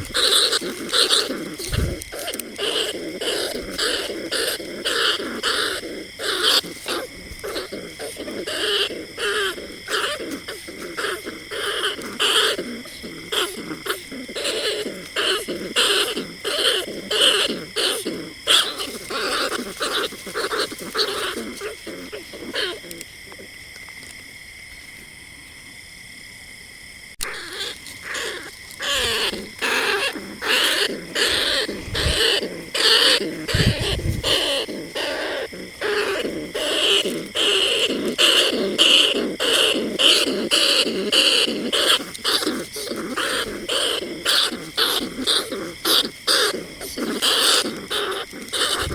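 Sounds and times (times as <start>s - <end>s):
rat squeaking calls: 0.0s - 23.1s, 27.2s - 48.9s.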